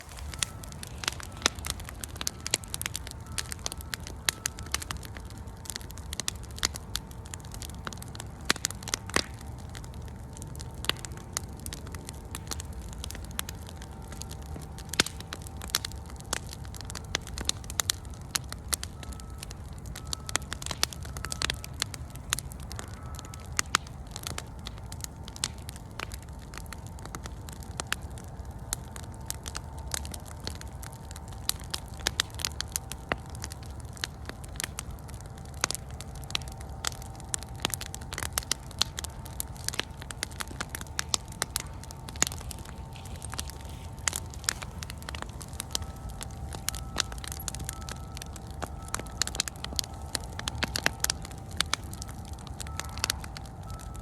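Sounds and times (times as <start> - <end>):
campfire crackling and popping: 0.0 - 54.0
low rumble of flames: 0.0 - 54.0.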